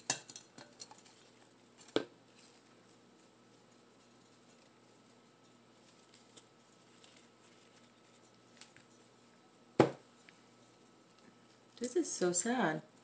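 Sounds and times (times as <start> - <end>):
soil and pots rustling: 0.0 - 13.0.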